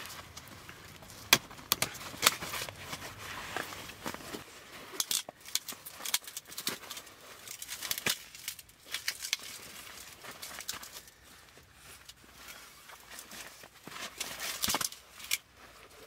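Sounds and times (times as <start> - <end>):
fabric rustling: 1.9 - 16.0.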